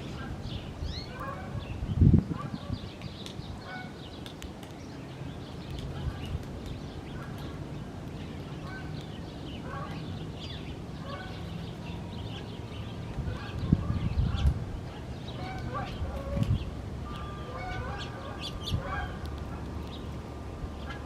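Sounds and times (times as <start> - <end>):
flock of birds calling: 0.0 - 21.0.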